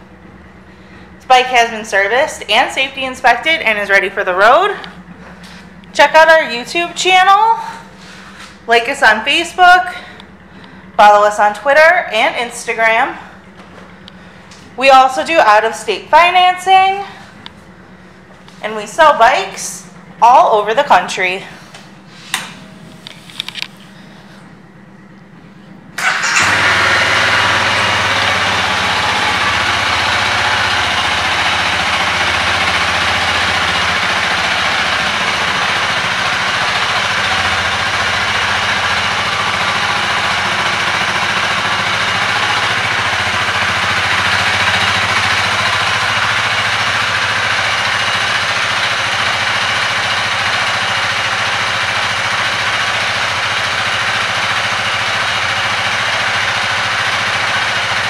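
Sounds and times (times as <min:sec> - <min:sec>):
motorcycle engine starting and idling: 0:00.0 - 0:58.0.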